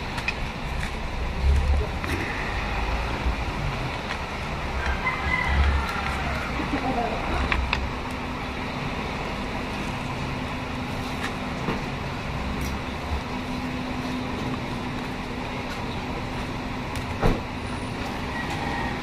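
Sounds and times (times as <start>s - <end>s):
traffic-like background hum: 0.0s - 19.0s.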